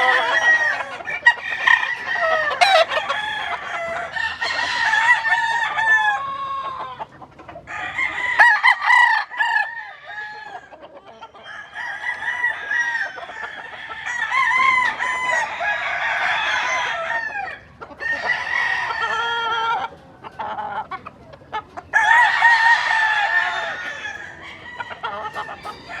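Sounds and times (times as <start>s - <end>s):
roosters crowing: 0.0s - 26.0s.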